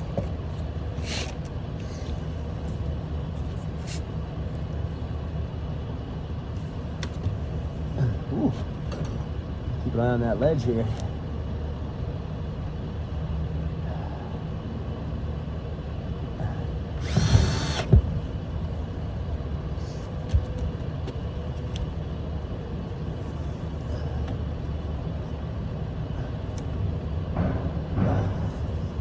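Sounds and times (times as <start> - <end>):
low mechanical rumble: 0.0 - 29.0.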